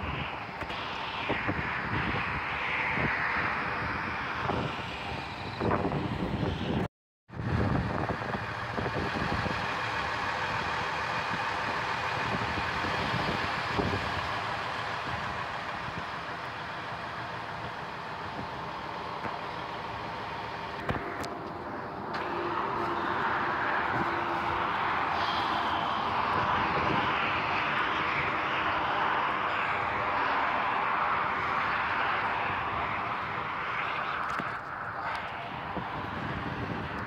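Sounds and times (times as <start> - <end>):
road noise: 0.0 - 37.0
truck diesel engine: 0.0 - 37.0.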